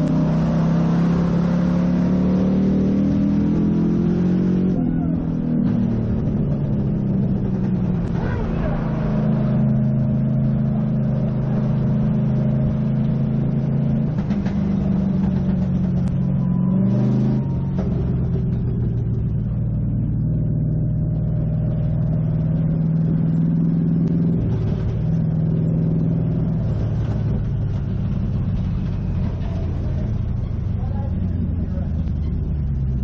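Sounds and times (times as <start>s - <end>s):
race car engine running: 0.0s - 33.0s.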